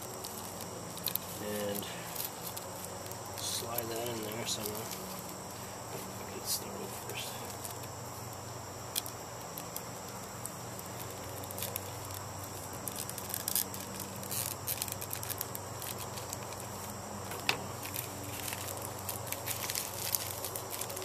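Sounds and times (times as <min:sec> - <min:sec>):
foil balloon crinkling: 0:00.0 - 0:21.0.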